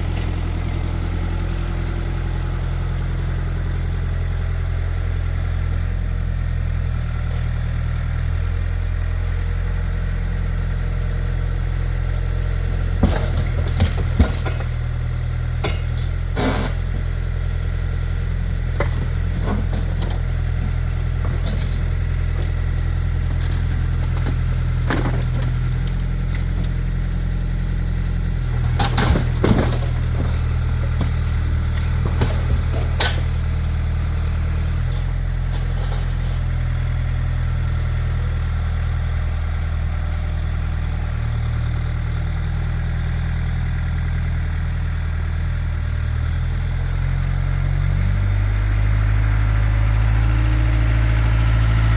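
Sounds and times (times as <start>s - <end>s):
tractor engine running steadily: 0.0s - 51.9s.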